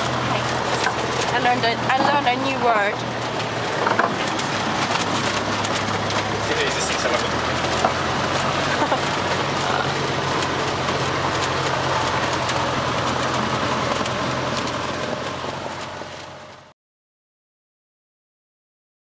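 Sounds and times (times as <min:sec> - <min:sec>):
propeller plane engine running: 0:00.0 - 0:16.7.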